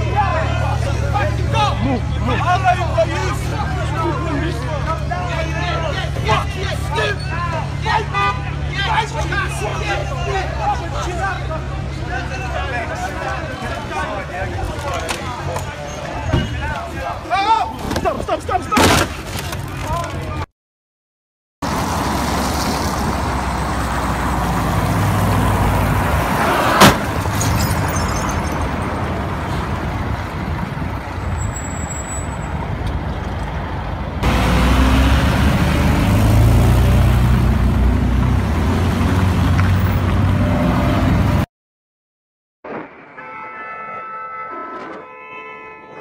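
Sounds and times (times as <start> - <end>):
vehicle engines and road noise: 0.0 - 20.5, 21.6 - 41.5.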